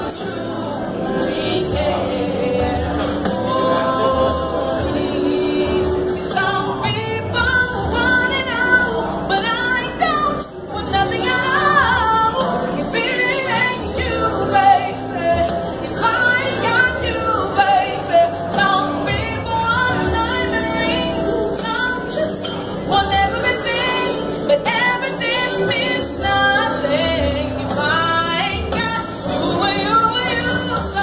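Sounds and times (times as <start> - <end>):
woman singing: 0.0 - 31.0.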